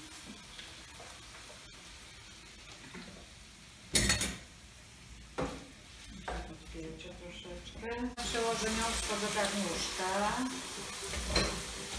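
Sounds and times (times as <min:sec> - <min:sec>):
meat sizzling in a frying pan: 0:00.0 - 0:11.9.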